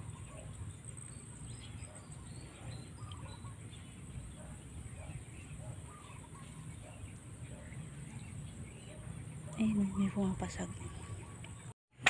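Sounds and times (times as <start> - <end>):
bird chirps: 0.0 - 11.7.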